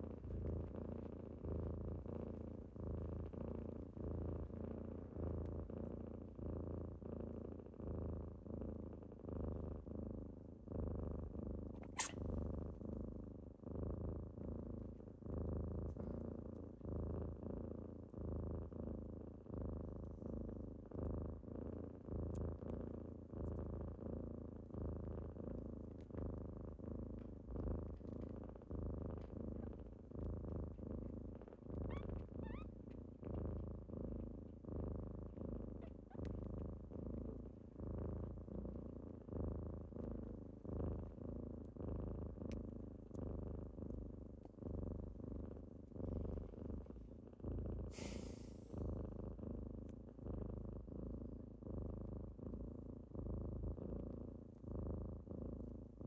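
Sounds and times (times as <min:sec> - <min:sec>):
kittens purring: 0:00.0 - 0:56.0.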